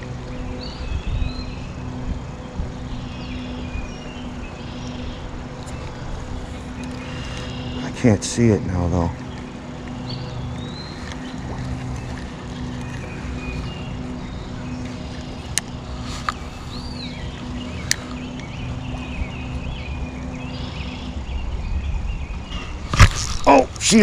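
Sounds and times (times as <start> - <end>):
faint pulsing hum: 0.0 - 24.0
low outdoor rumble: 0.0 - 24.0.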